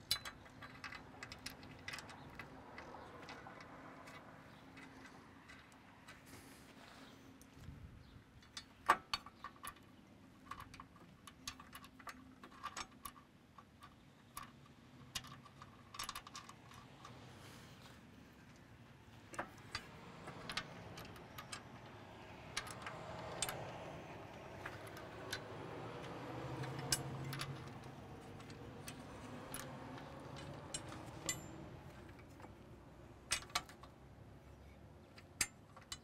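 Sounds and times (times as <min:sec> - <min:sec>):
metal bolts clicking and clinking: 0:00.0 - 0:06.3, 0:08.4 - 0:36.0.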